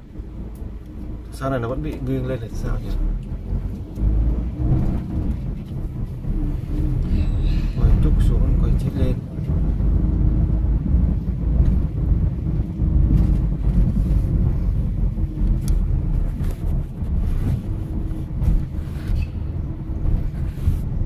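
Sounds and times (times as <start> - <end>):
car engine and road noise: 0.0 - 21.0
faint hum: 0.0 - 21.0.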